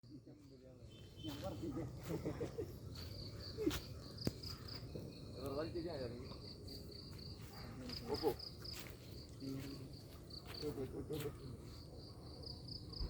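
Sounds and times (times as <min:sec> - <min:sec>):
insect chirping trill: 0:00.1 - 0:13.0.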